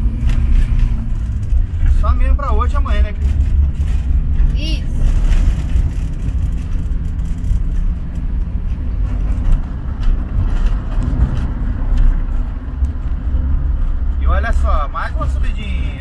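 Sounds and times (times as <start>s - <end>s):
van engine and road rumble: 0.0s - 16.0s.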